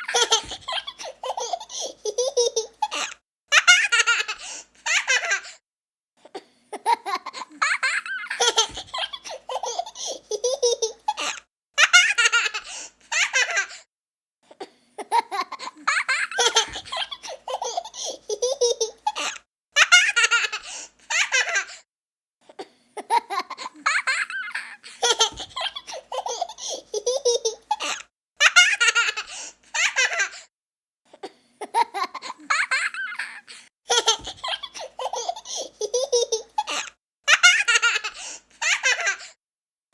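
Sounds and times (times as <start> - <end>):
young child laughing: 0.0 - 5.6, 6.8 - 13.8, 15.0 - 21.8, 23.0 - 30.4, 31.6 - 39.3.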